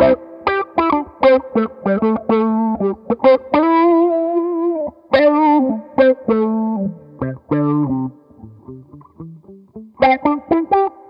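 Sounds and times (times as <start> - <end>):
funk electric guitar notes: 0.0 - 11.0.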